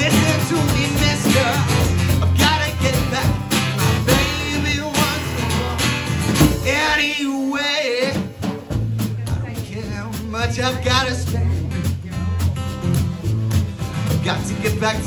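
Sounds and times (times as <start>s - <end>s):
man singing: 0.0s - 13.2s, 14.0s - 15.0s
drum kit playing: 0.0s - 15.0s
strummed acoustic guitar: 0.0s - 15.0s.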